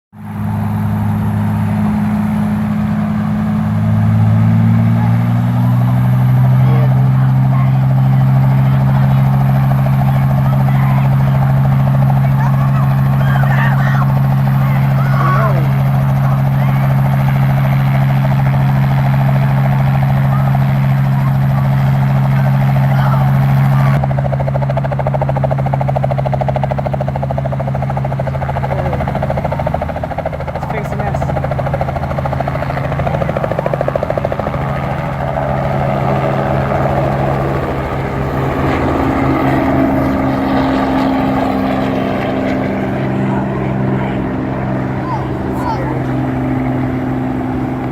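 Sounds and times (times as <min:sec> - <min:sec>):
helicopter engine and rotor: 0:00.2 - 0:47.9.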